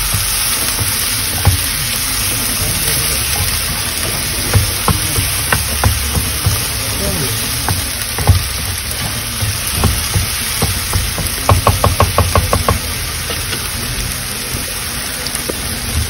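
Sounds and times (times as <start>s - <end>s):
utensil tapping pan: 0.0s - 13.6s
paste sizzling in frying pan: 0.0s - 16.0s.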